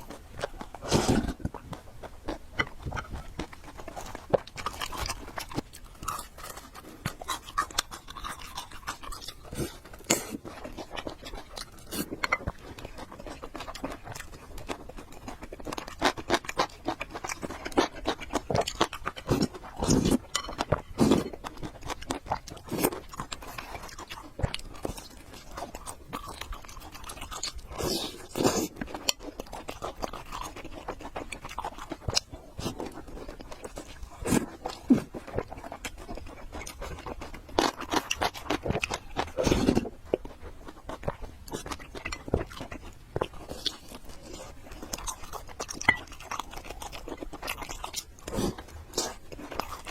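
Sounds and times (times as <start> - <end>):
chewing and slurping noodles: 0.0 - 49.9
crunching and smacking: 0.0 - 49.9.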